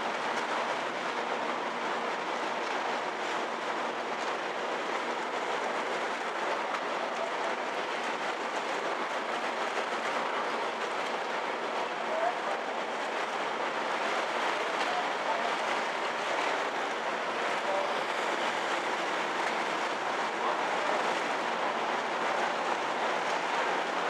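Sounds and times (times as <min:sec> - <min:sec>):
ship running noise and water: 0:00.0 - 0:24.0.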